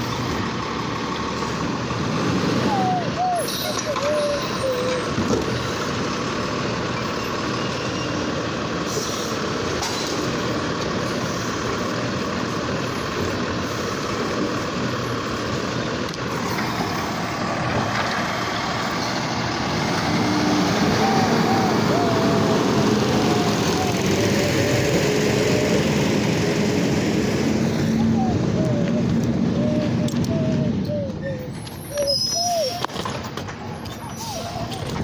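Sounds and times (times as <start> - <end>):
garbage truck engine running: 0.0 - 35.0
road noise: 0.0 - 35.0.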